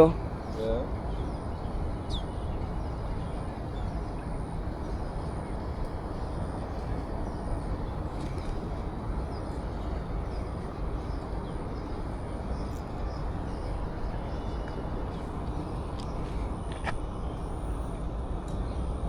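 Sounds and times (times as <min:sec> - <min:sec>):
low rumbling outdoor noise: 0:00.0 - 0:19.0.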